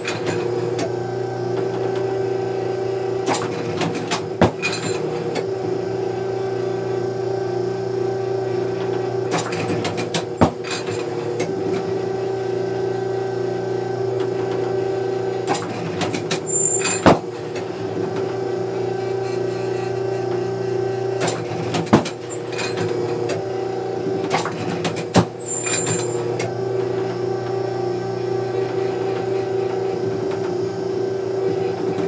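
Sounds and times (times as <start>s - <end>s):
electric machine hum: 0.0s - 32.0s.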